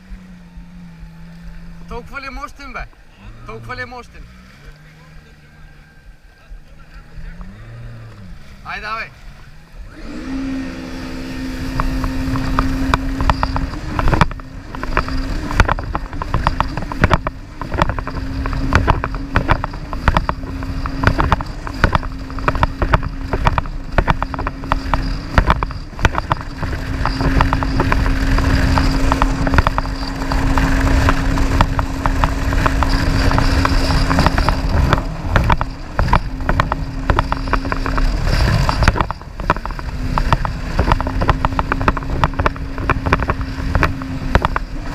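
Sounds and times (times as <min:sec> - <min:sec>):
rough crackling noise: 0:00.0 - 0:10.0, 0:11.0 - 0:44.9
jet ski engine running: 0:00.0 - 0:44.9.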